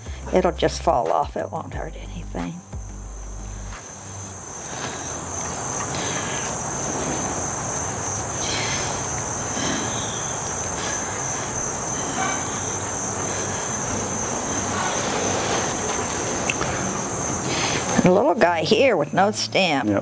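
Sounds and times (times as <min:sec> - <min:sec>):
background hiss: 0:00.0 - 0:20.0
high-pitched insect trill: 0:01.7 - 0:19.9.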